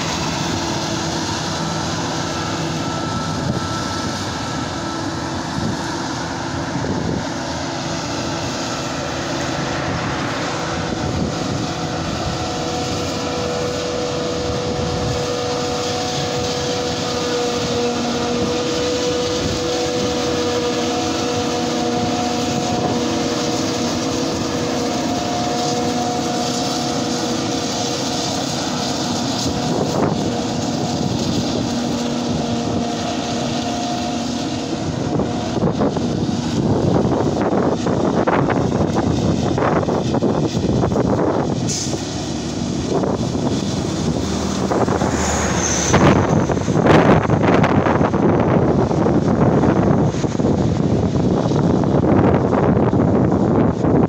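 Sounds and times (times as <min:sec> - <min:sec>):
harvester engine drone with whine: 0:00.0 - 0:54.0.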